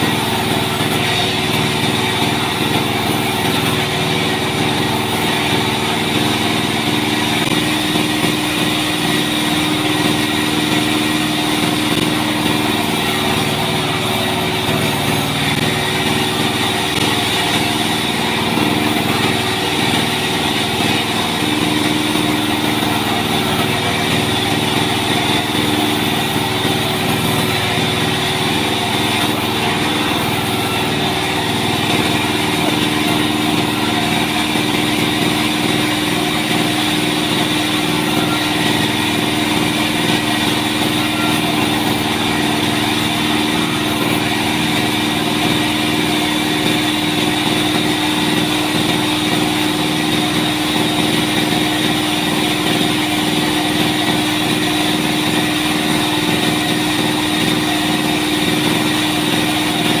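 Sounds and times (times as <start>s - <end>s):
band saw running: 0.0s - 60.0s.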